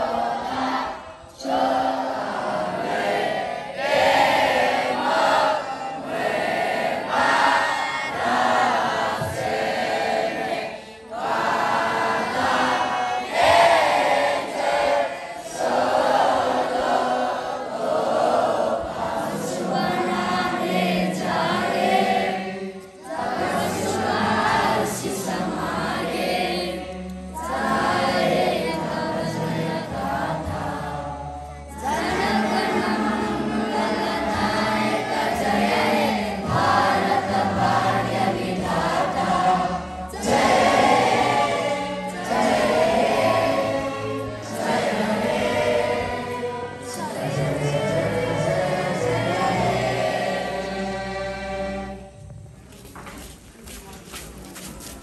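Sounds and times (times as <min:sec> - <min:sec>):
boys singing in unison: 0:00.0 - 0:52.2.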